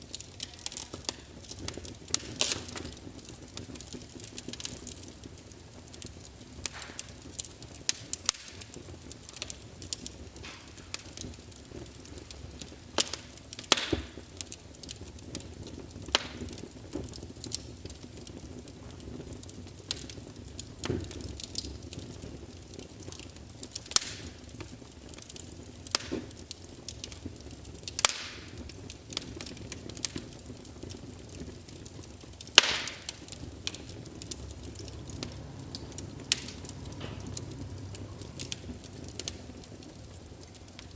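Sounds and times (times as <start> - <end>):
fire pops and snaps: 0.0 - 40.9
wood fire crackling: 0.0 - 40.9.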